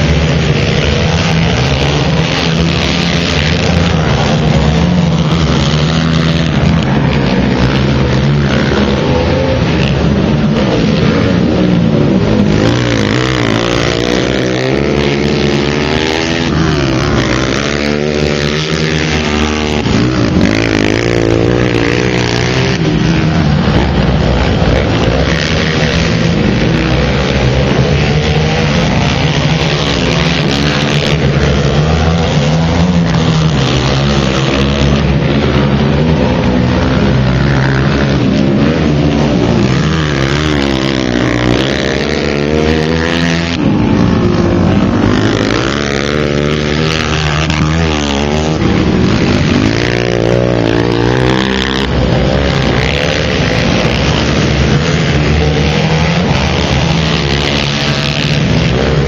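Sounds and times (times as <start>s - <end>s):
off-road racing engines revving: 0.0s - 59.0s.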